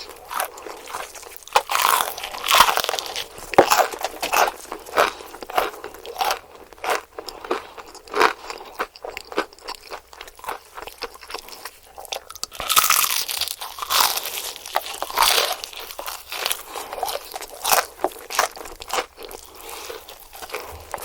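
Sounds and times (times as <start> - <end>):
crunching fried chicken: 0.0 - 21.0.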